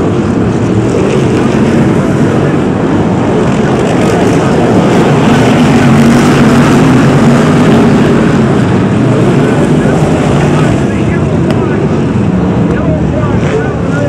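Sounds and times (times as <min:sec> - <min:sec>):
stock car engines running: 0:00.0 - 0:14.0.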